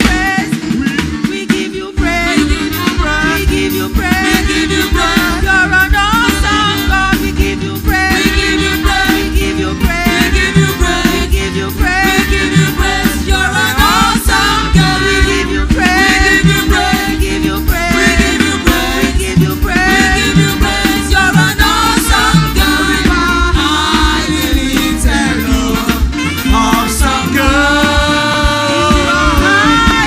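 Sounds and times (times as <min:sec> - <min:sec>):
gospel singing with band: 0:00.0 - 0:30.0.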